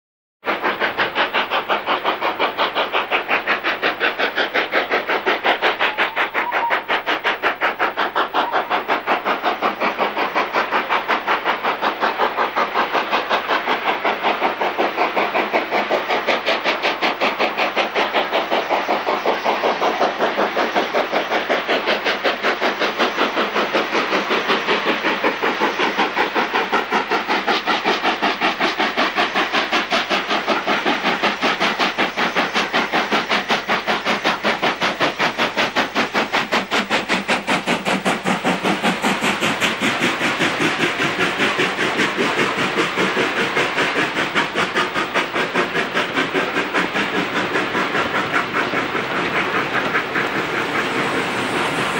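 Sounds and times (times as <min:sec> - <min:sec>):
steam locomotive exhaust beats: 0:00.4 - 0:51.9.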